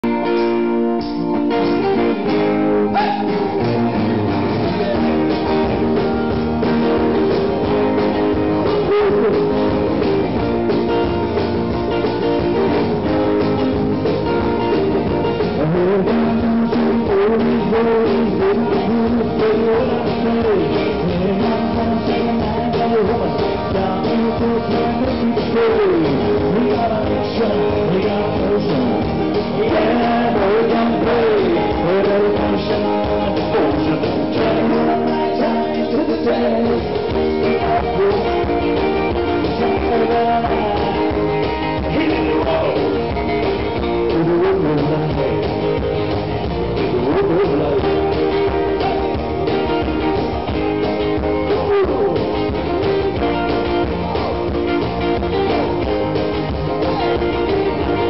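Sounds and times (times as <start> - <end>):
acoustic guitars strummed: 0.0 - 58.0
person singing: 1.8 - 10.6, 11.8 - 58.0.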